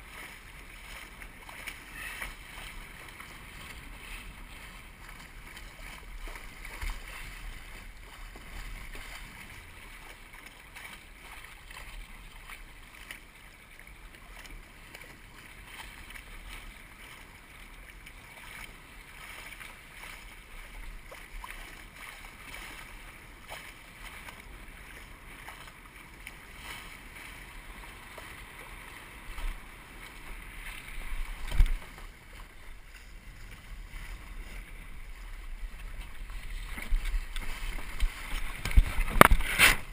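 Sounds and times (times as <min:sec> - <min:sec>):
water rushing past hull: 0:00.0 - 0:39.9.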